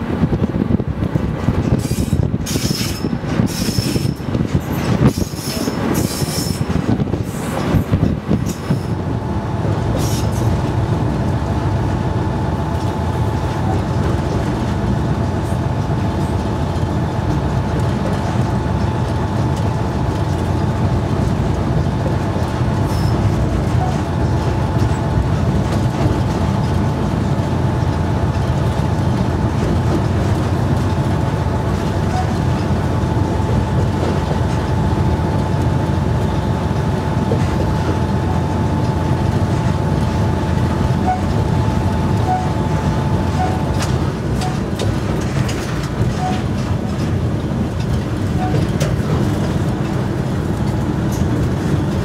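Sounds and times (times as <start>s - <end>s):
diesel locomotive rumble: 0.0s - 52.0s.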